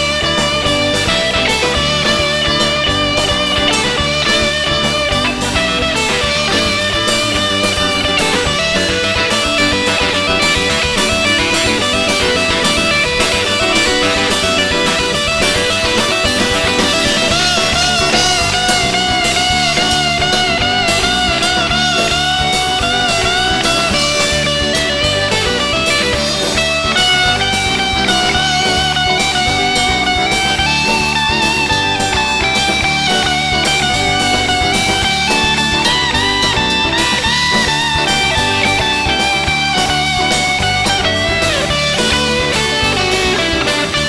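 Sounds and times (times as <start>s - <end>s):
bass guitar: 0.0s - 44.0s
drums with cymbal beats: 0.0s - 44.0s
lead electric guitar melody: 0.0s - 44.0s
rhythm guitar: 0.0s - 44.0s.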